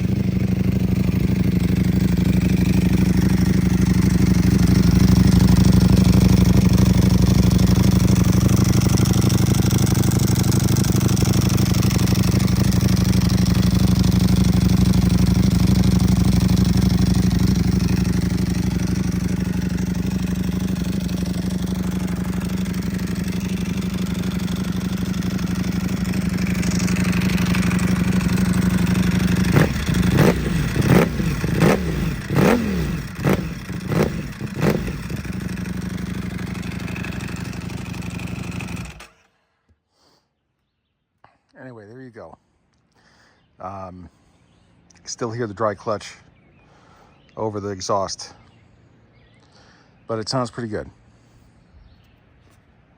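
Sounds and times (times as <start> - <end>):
motorcycle engine idling and revving: 0.0 - 39.4, 43.4 - 52.9.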